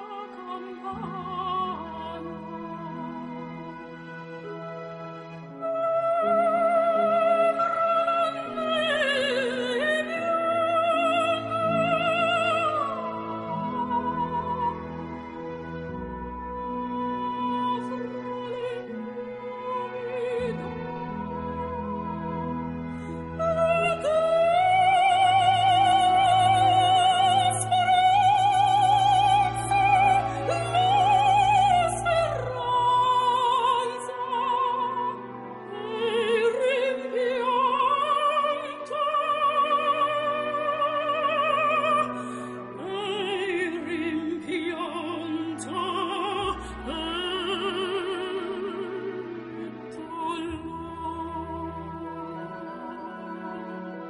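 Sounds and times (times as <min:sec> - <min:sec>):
operatic singing: 0:00.0 - 0:54.0
sustained accompaniment: 0:00.0 - 0:54.0.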